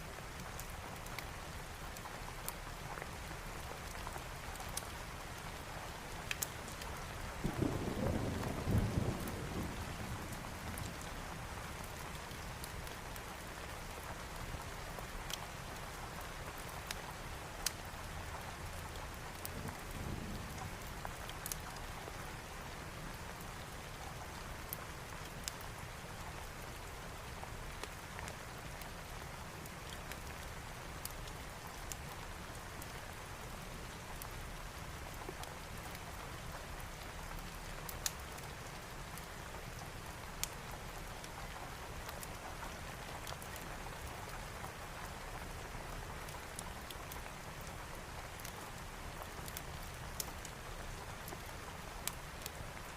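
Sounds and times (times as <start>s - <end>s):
steady rain: 0.0s - 52.9s
wood fire crackling: 0.4s - 7.7s, 10.8s - 22.2s, 23.2s - 52.9s.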